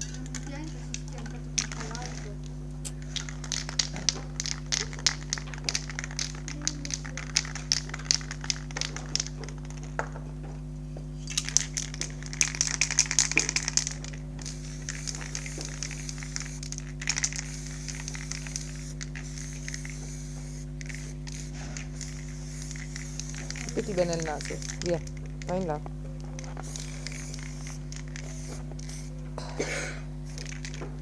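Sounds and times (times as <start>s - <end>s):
crackling crinkling clicks: 0.0s - 10.2s, 11.2s - 20.1s, 20.7s - 29.1s, 30.3s - 31.0s
low hum: 0.0s - 31.0s
spray paint can hissing: 1.2s - 10.0s, 11.2s - 29.2s, 30.2s - 31.0s.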